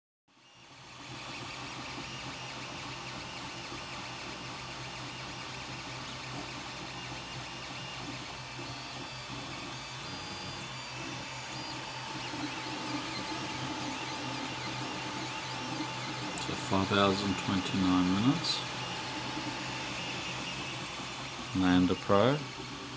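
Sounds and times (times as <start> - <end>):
cooling fans whirring: 0.4 - 22.9
stepper motors whining: 0.4 - 22.9.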